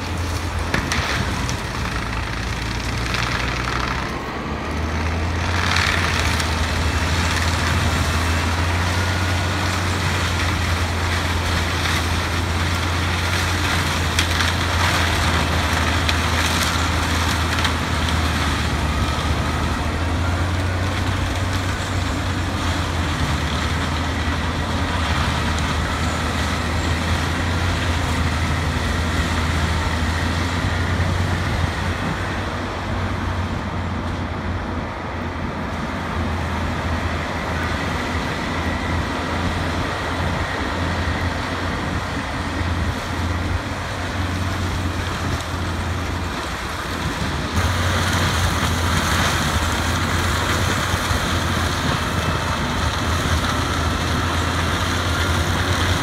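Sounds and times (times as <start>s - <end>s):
low engine drone: 0.0s - 56.0s
rotor shredding wood: 0.0s - 56.0s.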